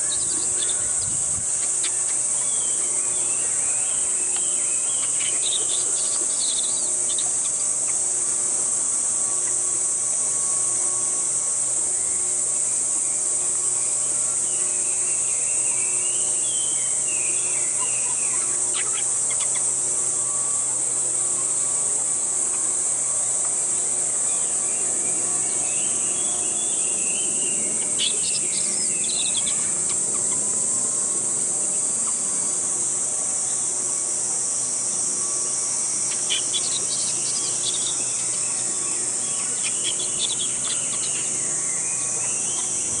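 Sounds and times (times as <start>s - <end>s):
chirps: 0.0s - 43.0s
high-pitched insect drone: 0.0s - 43.0s
wavering high calls: 0.0s - 43.0s.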